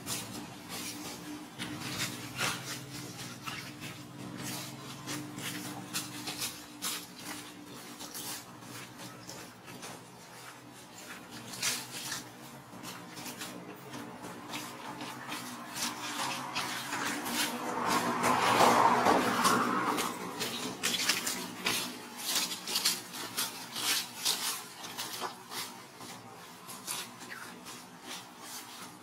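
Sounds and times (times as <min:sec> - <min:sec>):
dry leaves rustling and crackling: 0:00.0 - 0:29.0.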